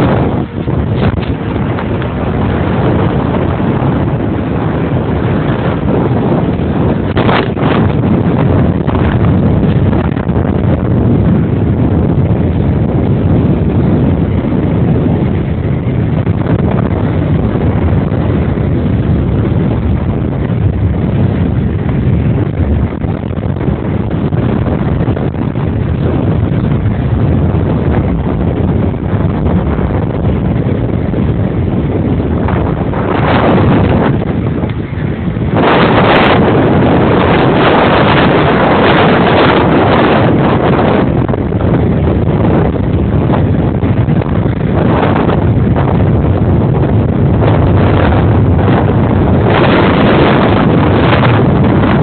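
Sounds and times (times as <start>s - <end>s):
vehicle road and engine noise: 0.0s - 52.0s
wind on microphone: 0.0s - 52.0s.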